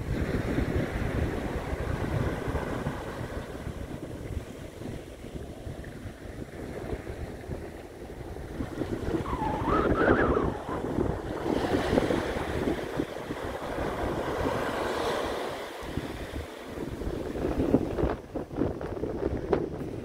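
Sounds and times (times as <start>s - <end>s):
small waves breaking on a beach: 0.0s - 20.0s
wind buffeting the microphone: 0.0s - 20.0s.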